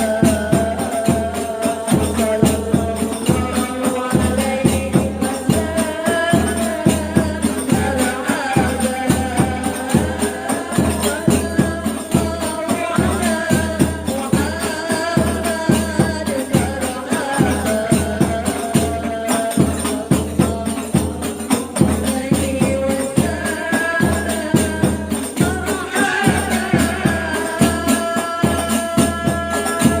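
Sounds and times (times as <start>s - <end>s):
frame drums beating: 0.0s - 30.0s
person singing: 0.0s - 30.0s.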